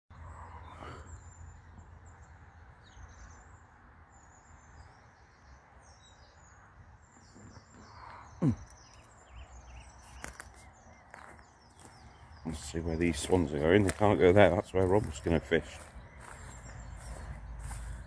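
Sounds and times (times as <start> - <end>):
outdoor background hum: 0.1 - 18.0
small birds chirping: 0.1 - 18.0.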